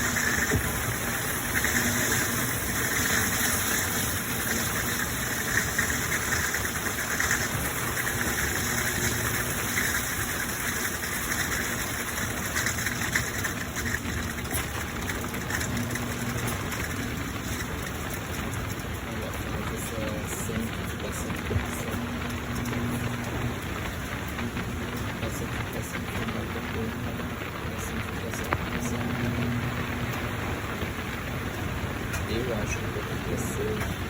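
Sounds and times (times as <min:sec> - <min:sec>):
washing machine churning: 0:00.0 - 0:34.0.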